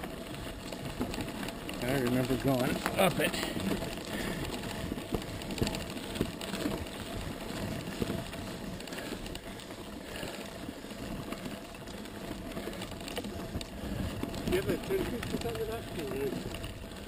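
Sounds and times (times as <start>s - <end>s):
bike rattling: 0.0s - 17.0s
bike tyres on dirt: 0.0s - 17.0s.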